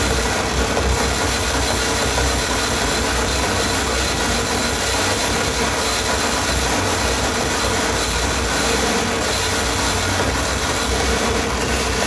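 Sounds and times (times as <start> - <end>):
noise music hiss and rumble: 0.0 - 12.0.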